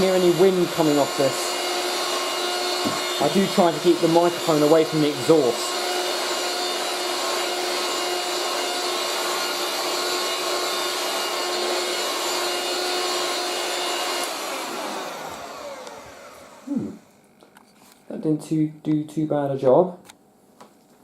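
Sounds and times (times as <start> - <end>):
handheld vacuum cleaner whine: 0.0 - 17.6.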